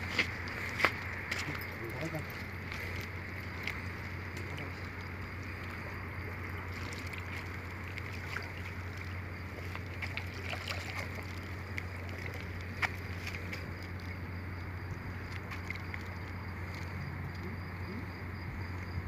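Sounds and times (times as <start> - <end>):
small clicks and splashes: 0.0 - 17.5
creek water running over rocks: 0.0 - 19.0
steady low hum: 0.0 - 19.0.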